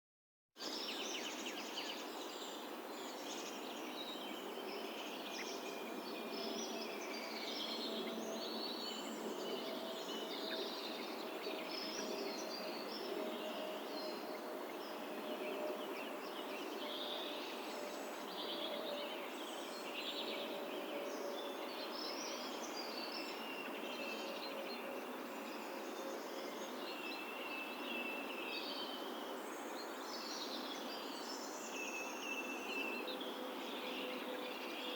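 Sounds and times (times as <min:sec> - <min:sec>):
birds chirping and singing: 0:00.6 - 0:34.9
countryside background hiss: 0:00.6 - 0:34.9.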